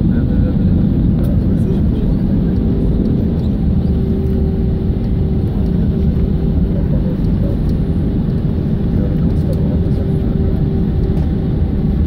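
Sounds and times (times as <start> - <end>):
engines and wheels rumbling: 0.0 - 12.0.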